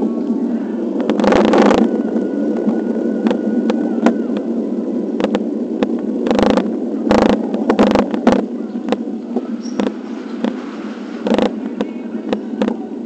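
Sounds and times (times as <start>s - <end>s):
wind on microphone: 0.0s - 12.8s
road rumble: 0.0s - 13.0s.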